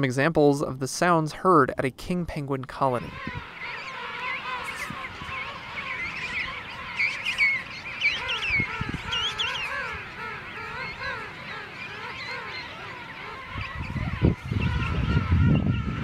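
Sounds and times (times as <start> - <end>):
penguins calling: 2.9 - 16.0.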